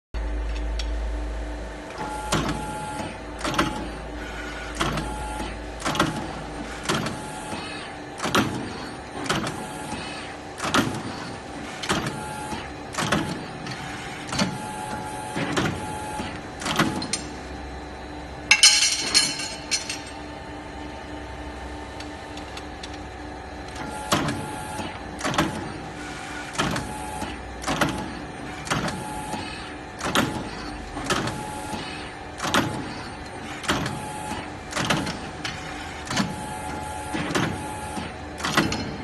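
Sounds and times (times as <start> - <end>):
machine hum: 0.2 - 39.0.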